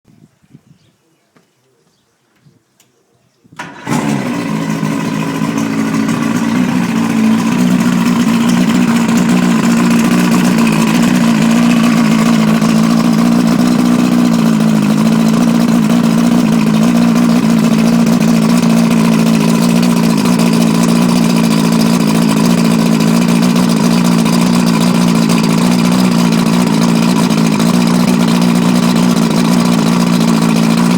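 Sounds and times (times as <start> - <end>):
outboard motor running: 3.6 - 30.9.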